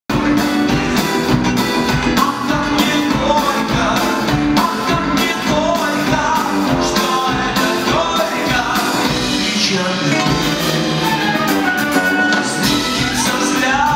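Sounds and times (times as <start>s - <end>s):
bass guitar: 0.1s - 13.9s
drum kit: 0.1s - 13.9s
electric guitars: 0.1s - 13.9s
keyboard: 0.1s - 13.9s
person singing: 2.0s - 13.9s.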